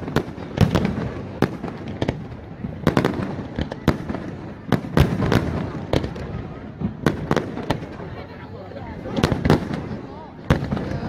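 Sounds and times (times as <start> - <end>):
low rumble of fireworks: 0.0 - 11.0.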